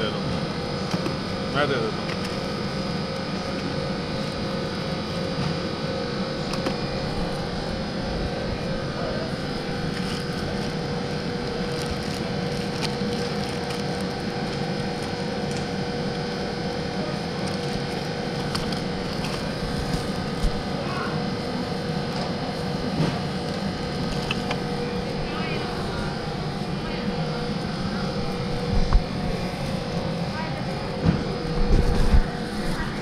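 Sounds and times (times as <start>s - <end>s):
mid-pitched hum: 0.0s - 33.0s.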